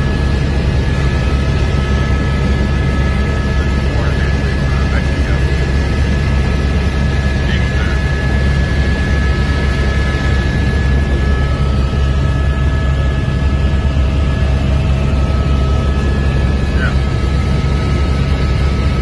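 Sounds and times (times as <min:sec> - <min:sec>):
helicopter rotor and engine drone: 0:00.0 - 0:19.0
high whine: 0:00.0 - 0:19.0.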